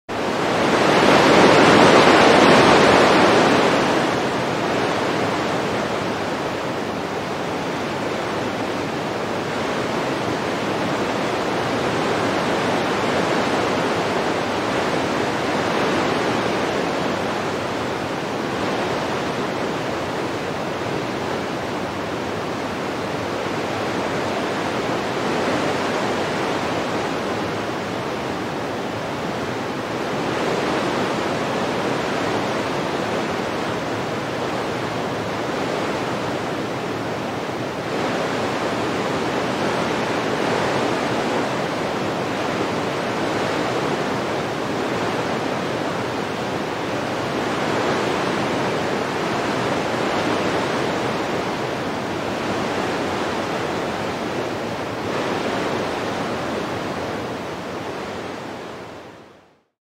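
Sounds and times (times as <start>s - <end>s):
wind blowing: 0.1s - 59.5s.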